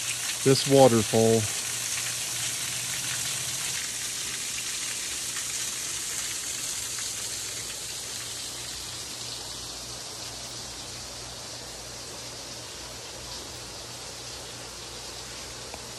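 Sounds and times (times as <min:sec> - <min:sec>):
small waterfall spilling onto rocks: 0:00.0 - 0:15.9.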